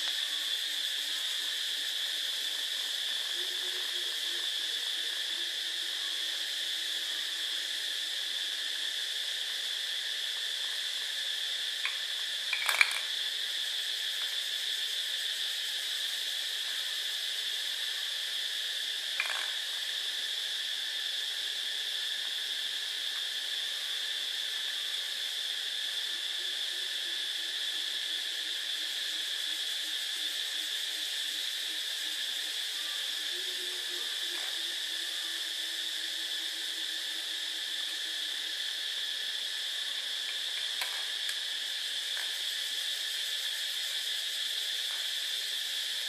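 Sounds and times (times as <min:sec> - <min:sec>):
crickets chirring: 0:00.0 - 0:46.0.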